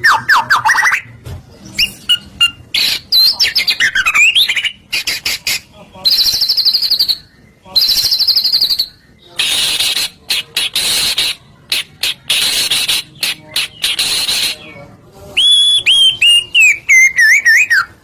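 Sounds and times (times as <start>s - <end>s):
bird singing: 0.0s - 1.1s, 1.7s - 18.0s
high trembling bird trill: 0.0s - 1.1s, 1.8s - 18.0s.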